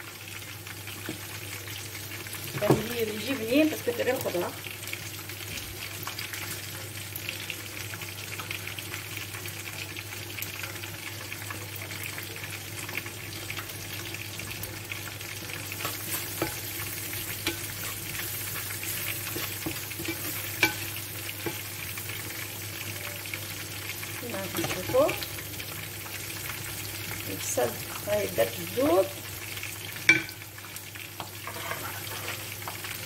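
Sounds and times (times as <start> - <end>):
onions sizzling and crackling: 0.0 - 33.0.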